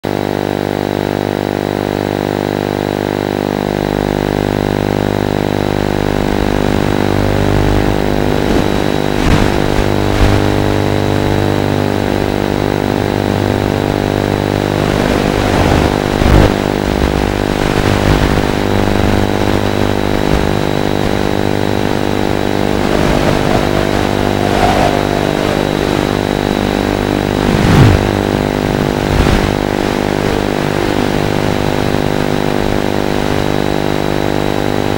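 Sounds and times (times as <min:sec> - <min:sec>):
steady electronic buzz: 0:00.6 - 0:34.2
sweeping whines and crackles: 0:00.6 - 0:34.9
thin high whine: 0:03.8 - 0:32.4.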